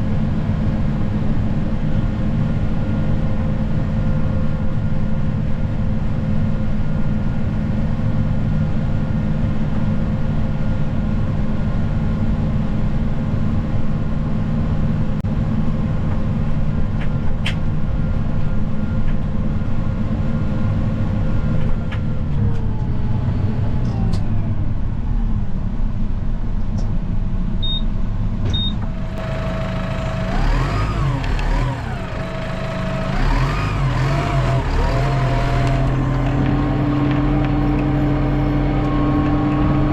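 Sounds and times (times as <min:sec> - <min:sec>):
snow plow engine running: 0:00.0 - 0:26.4, 0:27.2 - 0:39.9.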